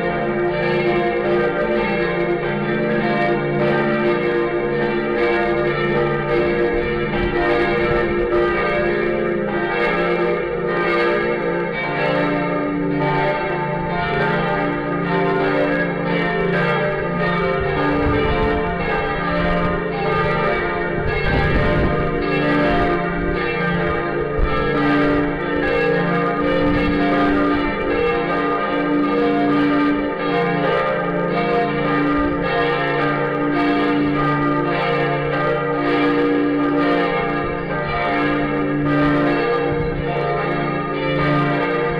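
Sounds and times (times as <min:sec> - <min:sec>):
church bells ringing in a peal: 0:00.0 - 0:41.9.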